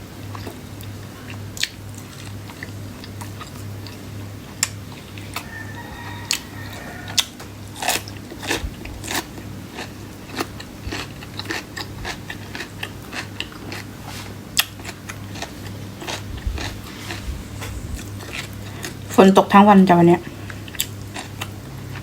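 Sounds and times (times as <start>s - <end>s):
low steady hum: 0.0s - 22.0s
chewing crunchy food: 0.1s - 19.2s, 20.2s - 22.0s.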